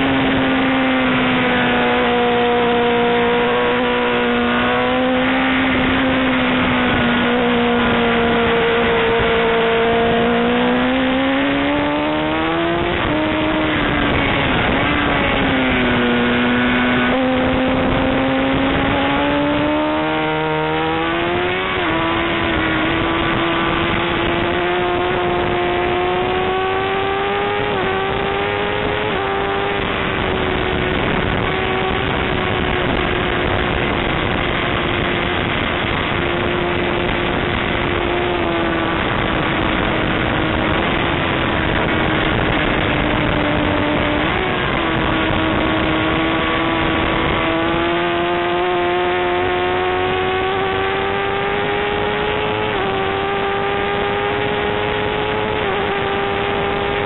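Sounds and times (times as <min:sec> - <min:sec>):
sport-bike engine revving: 0:00.0 - 0:57.0
steady rushing noise: 0:00.0 - 0:57.0.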